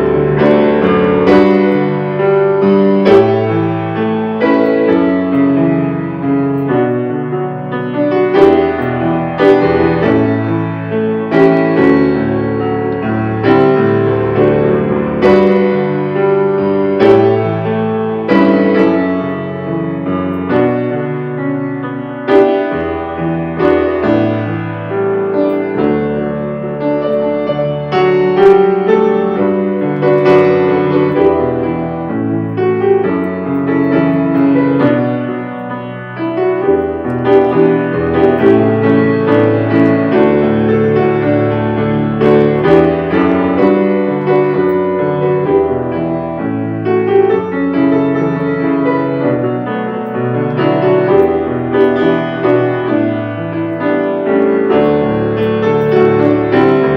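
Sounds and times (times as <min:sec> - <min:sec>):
piano chords: 0:00.0 - 0:56.9.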